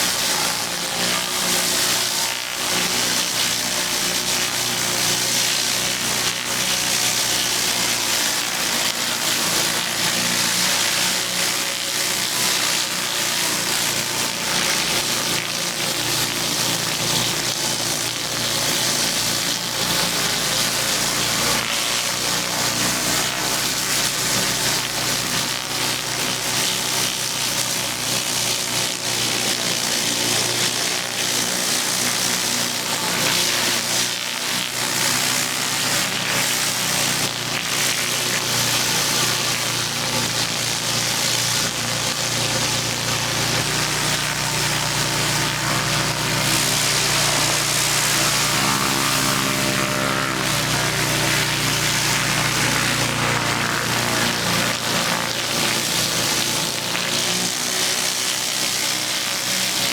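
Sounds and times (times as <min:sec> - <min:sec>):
high-pressure water spraying: 0:00.0 - 0:59.9
pressure washer engine running: 0:00.0 - 0:59.9.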